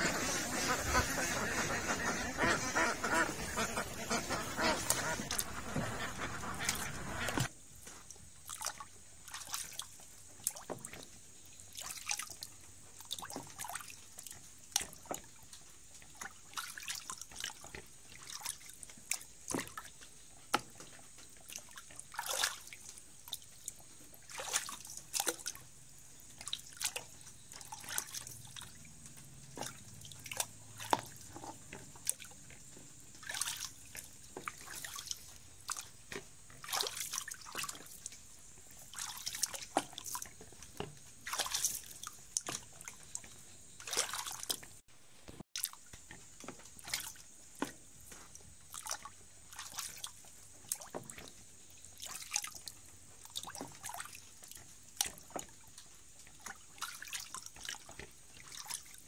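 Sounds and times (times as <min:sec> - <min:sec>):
water splashing around canoe: 0:00.0 - 0:59.0.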